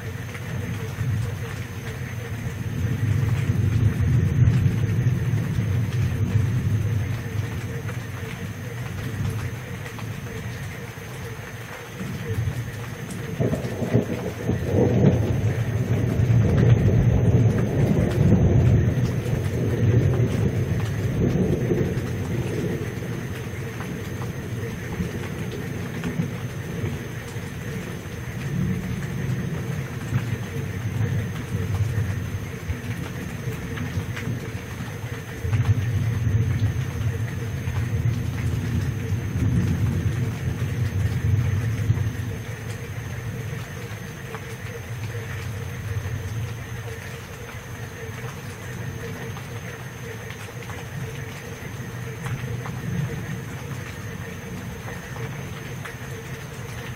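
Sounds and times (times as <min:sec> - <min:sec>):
thunder rumbling: 0:00.0 - 0:56.9.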